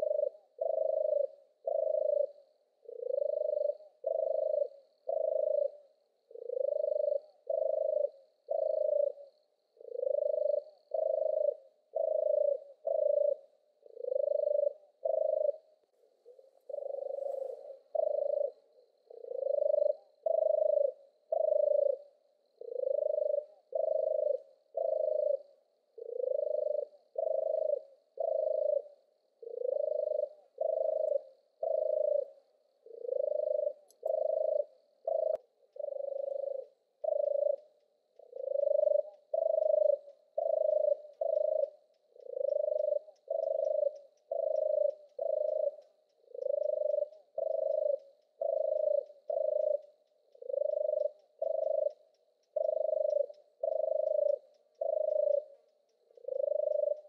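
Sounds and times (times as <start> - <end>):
turtle dove purring song: 0.0 - 57.0.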